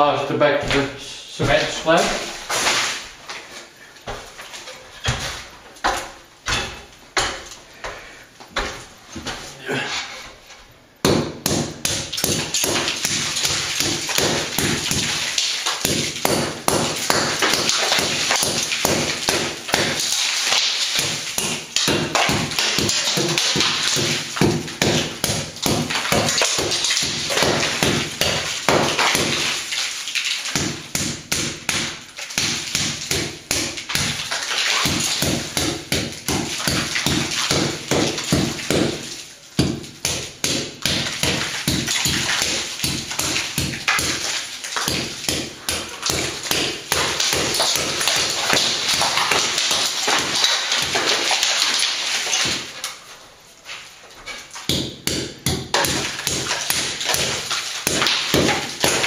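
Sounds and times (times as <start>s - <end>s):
hammer chipping plaster: 4.1s - 8.0s, 11.0s - 53.0s, 54.3s - 59.0s.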